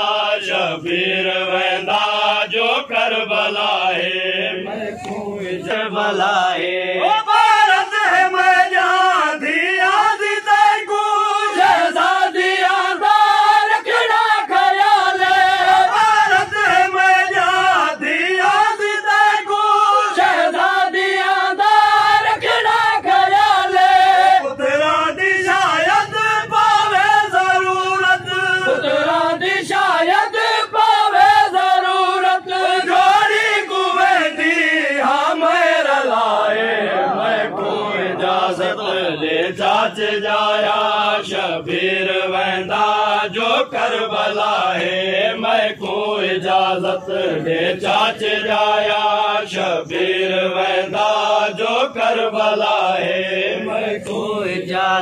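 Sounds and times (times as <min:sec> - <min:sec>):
lead voice chanting: 0:00.0 - 0:55.0
men chanting in unison: 0:00.0 - 0:55.0.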